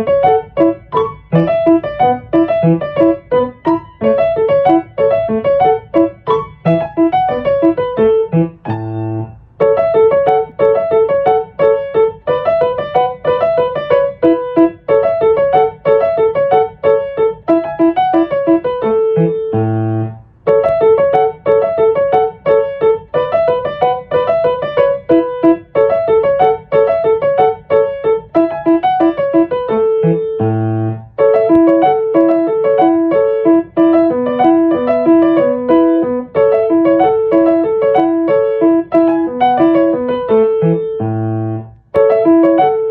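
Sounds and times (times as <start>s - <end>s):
solo piano music: 0.0s - 42.9s.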